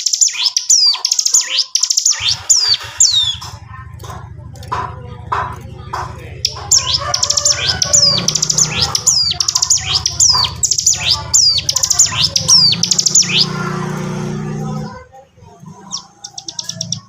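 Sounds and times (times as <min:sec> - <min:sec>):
bird singing chattering song: 0:00.0 - 0:17.0
steady low hum: 0:02.3 - 0:16.2.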